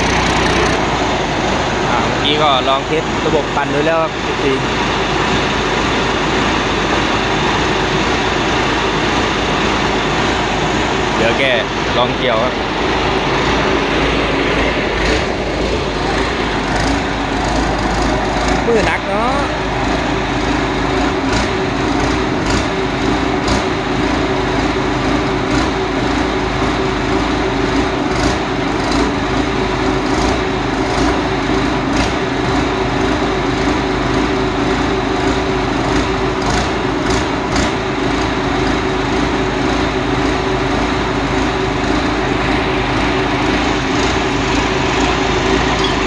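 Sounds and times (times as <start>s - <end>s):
combine harvester engine droning: 0.0s - 46.0s.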